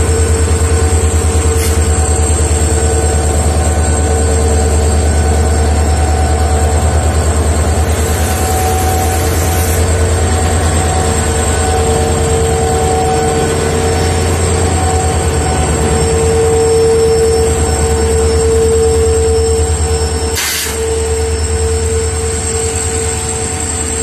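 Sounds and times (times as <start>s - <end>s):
diesel locomotive engine throbbing: 0.0s - 24.0s.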